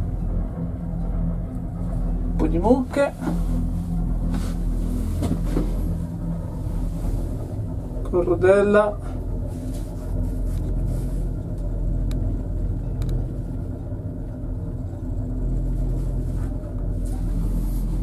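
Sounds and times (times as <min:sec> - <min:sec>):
gondola cabin rumble and hum: 0:00.0 - 0:18.0.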